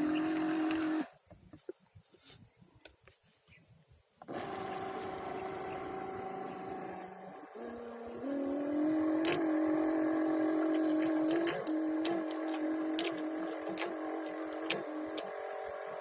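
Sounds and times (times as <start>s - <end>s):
small electric motor whining: 0.0s - 1.2s, 4.2s - 16.0s.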